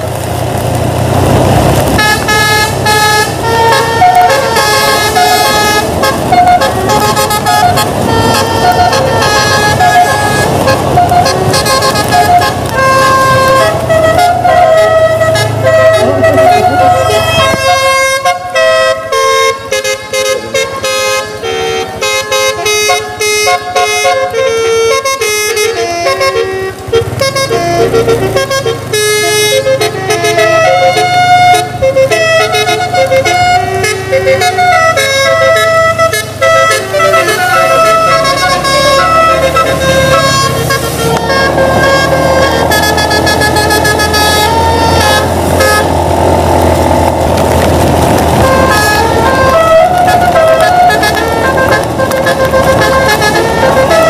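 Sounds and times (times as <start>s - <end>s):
bus engine humming: 0.0s - 54.0s
musical air horn playing a tune: 1.9s - 54.0s.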